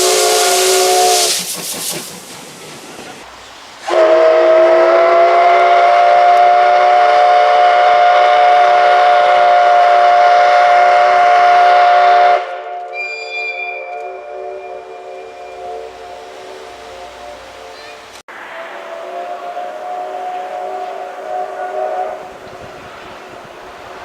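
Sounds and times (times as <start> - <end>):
steam locomotive whistle: 0.0 - 1.5, 3.8 - 22.8.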